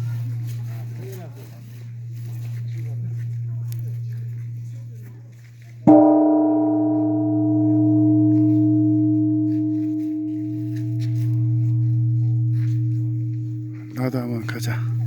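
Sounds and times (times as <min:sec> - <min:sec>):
large temple bell ringing: 0:00.0 - 0:15.0.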